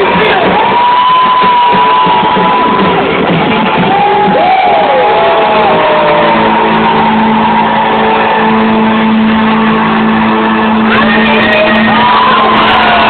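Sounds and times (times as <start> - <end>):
crowd noise: 0.0 - 13.0
live rock band playing loud: 0.0 - 13.0.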